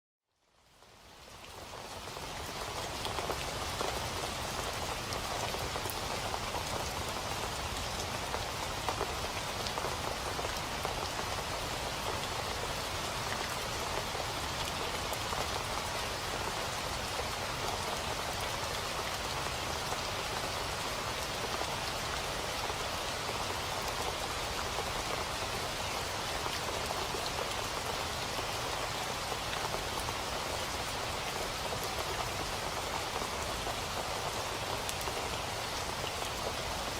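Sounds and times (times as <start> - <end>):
steady rain patter: 0.2 - 36.9.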